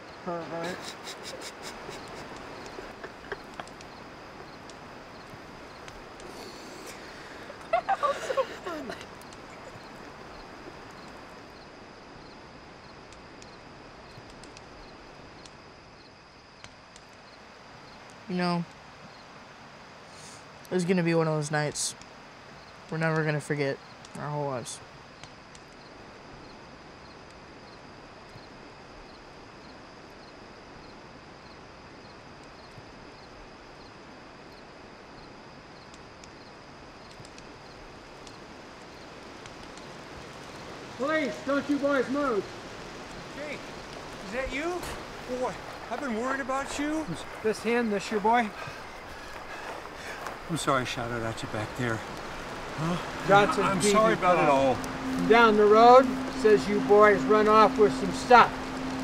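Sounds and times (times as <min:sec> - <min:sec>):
campfire crackling: 0:00.0 - 0:59.0
crickets chirping: 0:00.0 - 0:59.0
soft steady hiss: 0:00.0 - 0:59.0.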